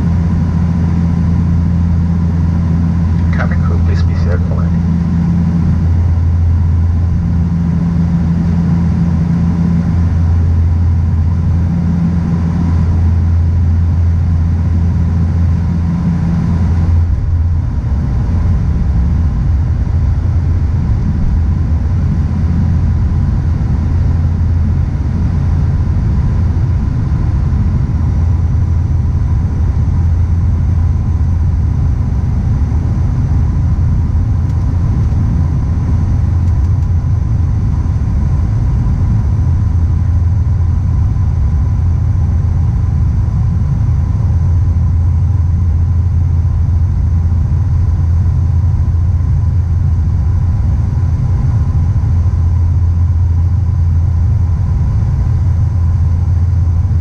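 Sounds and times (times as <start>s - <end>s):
turboprop cabin drone: 0.0s - 57.0s.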